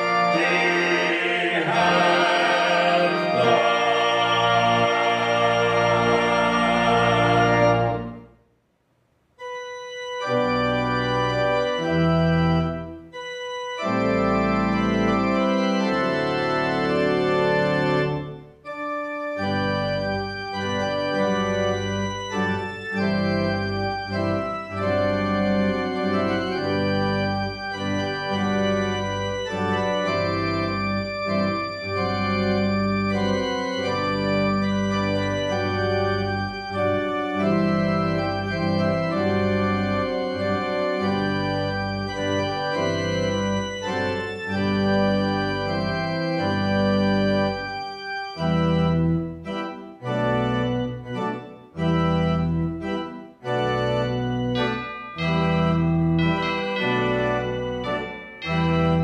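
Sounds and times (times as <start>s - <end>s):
slow organ music: 0.0s - 8.4s, 9.4s - 59.0s.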